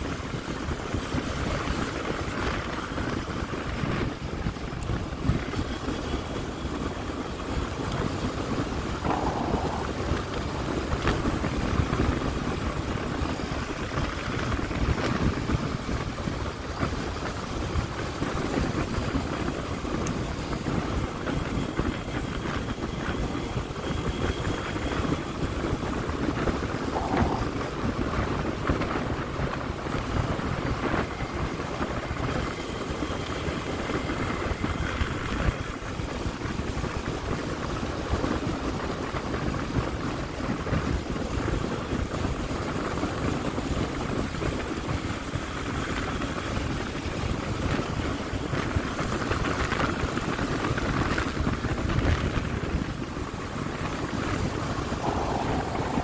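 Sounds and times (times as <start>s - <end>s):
road noise: 0.0s - 56.0s
wind rushing on microphone: 0.0s - 56.0s.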